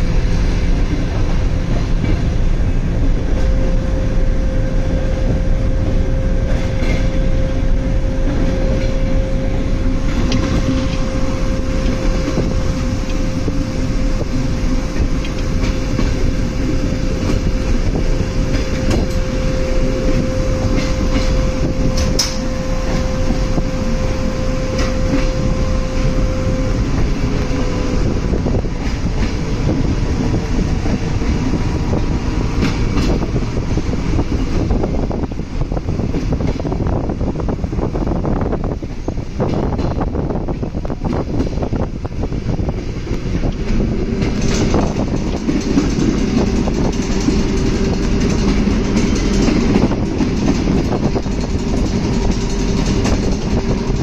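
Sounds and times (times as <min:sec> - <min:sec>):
steady whining tone: 0:00.0 - 0:54.0
wheels rumbling on rails: 0:00.0 - 0:54.0.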